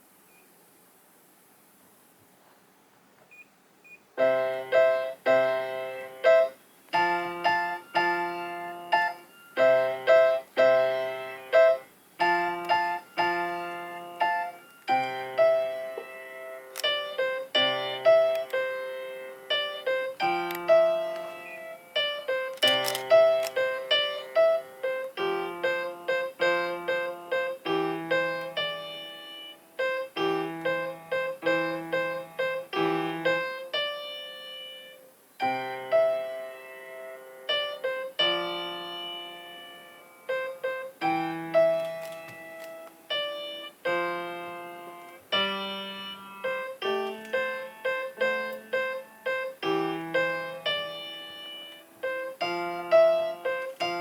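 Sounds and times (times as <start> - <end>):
slow solo piano piece: 4.2 - 54.0.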